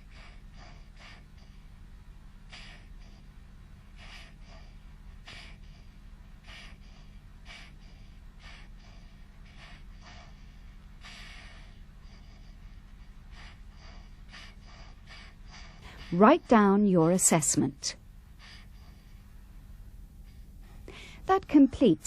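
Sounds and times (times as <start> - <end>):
infant fast noisy breathing: 0.0 - 22.0
steady low hum: 0.0 - 22.0.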